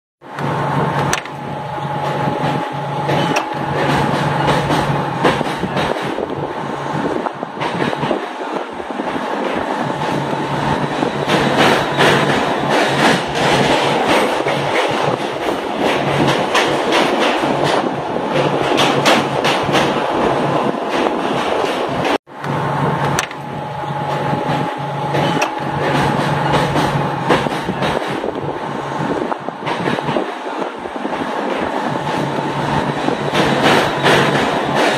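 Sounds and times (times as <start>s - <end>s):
train wheels rumbling and rattling: 0.2s - 34.9s.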